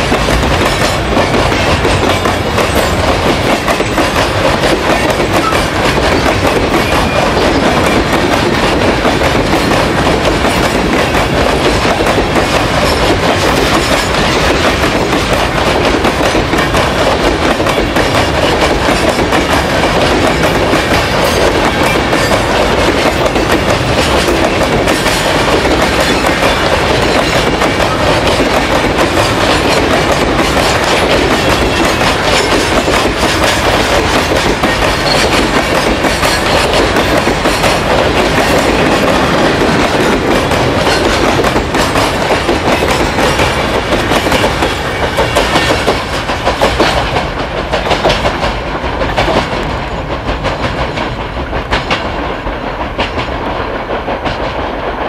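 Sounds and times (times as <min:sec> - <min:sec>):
wheel clacks: 0:00.0 - 0:53.3
freight train wheels clattering: 0:00.0 - 0:55.0.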